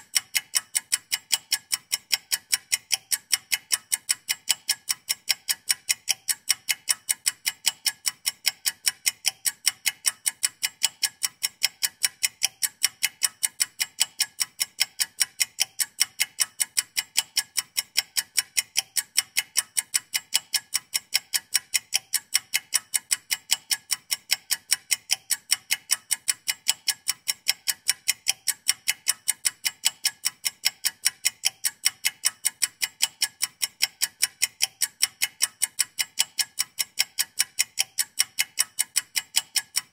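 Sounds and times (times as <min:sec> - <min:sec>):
fast clock ticking: 0:00.0 - 0:39.9.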